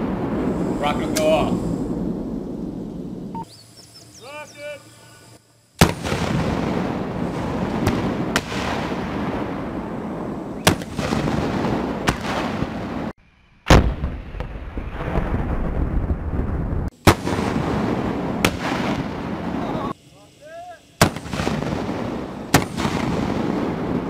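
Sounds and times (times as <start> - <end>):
rocket launch blasts echoing: 0.0 - 3.4, 5.8 - 20.0, 20.6 - 24.0.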